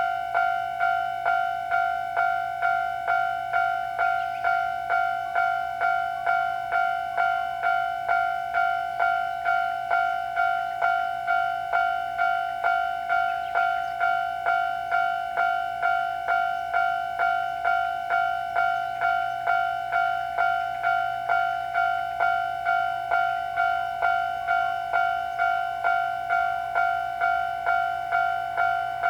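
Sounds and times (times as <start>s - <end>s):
level-crossing warning bell ringing: 0.0s - 29.0s.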